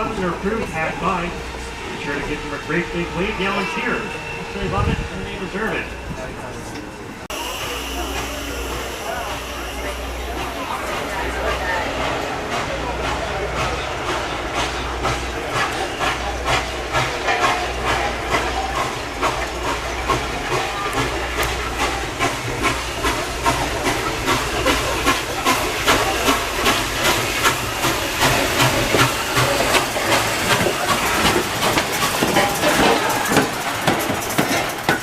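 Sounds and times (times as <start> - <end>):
steam locomotive exhaust chuffs: 0.0 - 35.0
steam hissing: 7.0 - 35.0.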